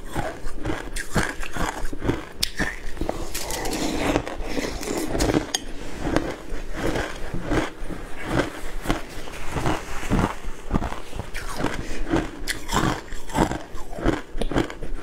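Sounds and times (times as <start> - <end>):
ice being crunched and chewed: 0.0 - 15.0.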